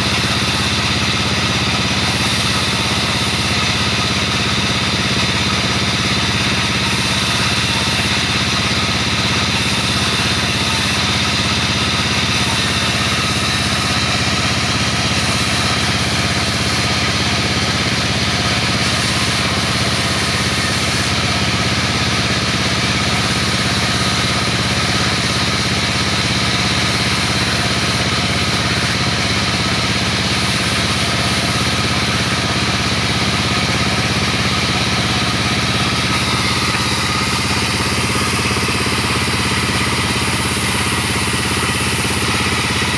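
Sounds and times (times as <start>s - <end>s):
sawmill machinery droning: 0.0s - 42.9s.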